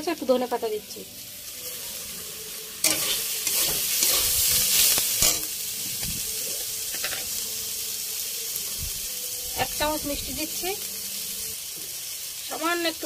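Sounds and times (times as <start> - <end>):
cabbage sizzling in oil: 0.0 - 13.0.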